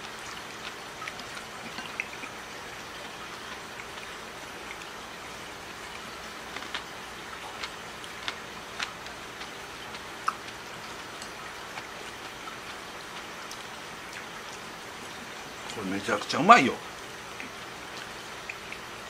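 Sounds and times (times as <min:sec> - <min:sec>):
wet chewing clicks: 0:00.0 - 0:05.0, 0:05.6 - 0:15.8, 0:17.0 - 0:19.0
steady hiss: 0:00.0 - 0:19.0.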